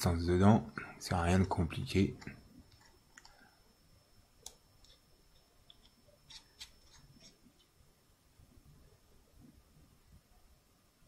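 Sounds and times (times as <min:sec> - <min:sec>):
faint steady high tone: 0:00.0 - 0:11.0.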